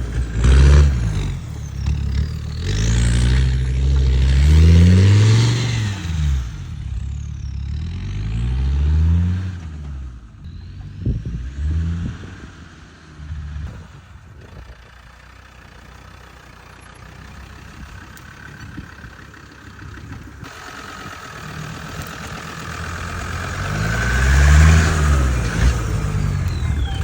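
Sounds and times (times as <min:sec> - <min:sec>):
diesel engine running: 0:00.0 - 0:27.0
engine revving: 0:00.0 - 0:27.0.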